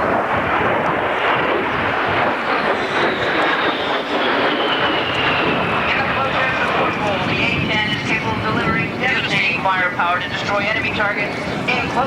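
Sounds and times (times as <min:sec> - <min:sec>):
high jet whine: 0:00.0 - 0:12.0
jet aircraft rushing past: 0:00.0 - 0:12.0.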